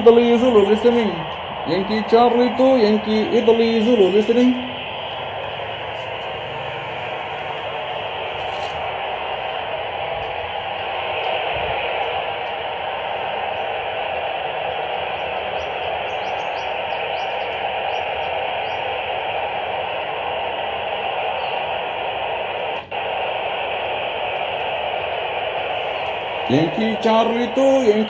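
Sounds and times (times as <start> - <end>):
radio receiver static hiss: 0.0 - 28.0.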